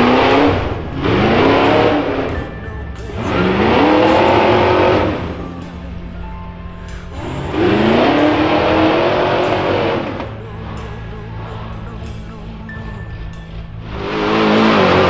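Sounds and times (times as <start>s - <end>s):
engine revving in bursts: 0.0s - 12.2s, 13.6s - 15.0s.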